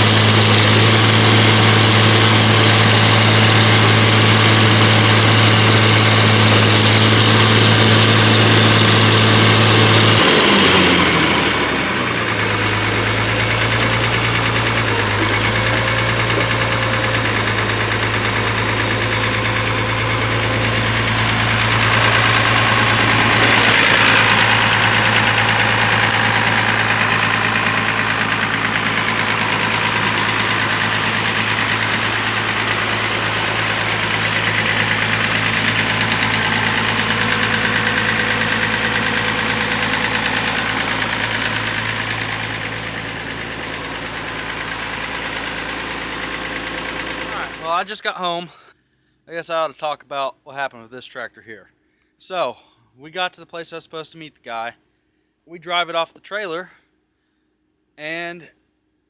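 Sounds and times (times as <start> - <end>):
tractor engine running: 0.0 - 47.8.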